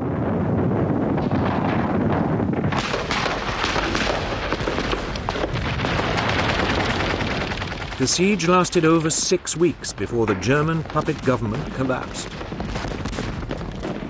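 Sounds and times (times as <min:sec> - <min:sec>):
artillery rumble: 0:00.0 - 0:14.0
small-arms and machine-gun fire: 0:00.0 - 0:14.0.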